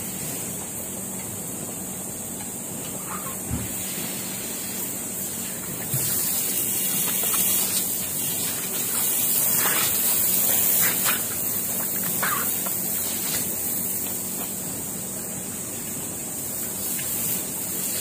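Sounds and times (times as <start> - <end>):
hose spraying water on tiles: 0.0 - 0.7, 3.5 - 18.0.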